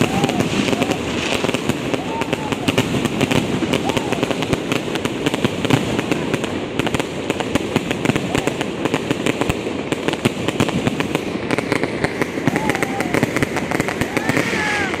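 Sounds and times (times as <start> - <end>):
distant fireworks rumble: 0.0 - 15.0
fireworks bangs and crackles: 0.0 - 15.0.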